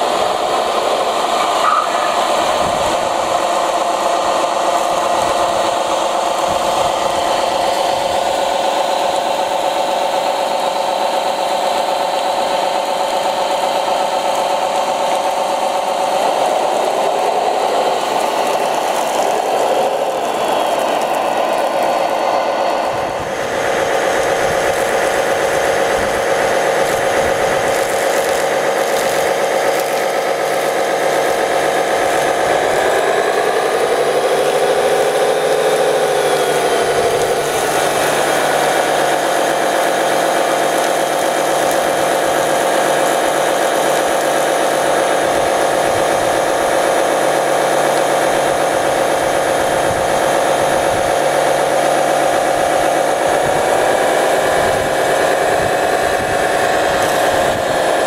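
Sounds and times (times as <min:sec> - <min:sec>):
small water pump whine: 0:00.0 - 0:58.0.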